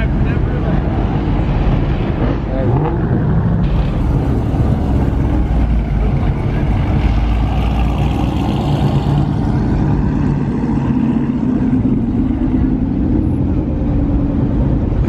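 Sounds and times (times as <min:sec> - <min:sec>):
car engine exhaust rumble: 0:00.0 - 0:15.0.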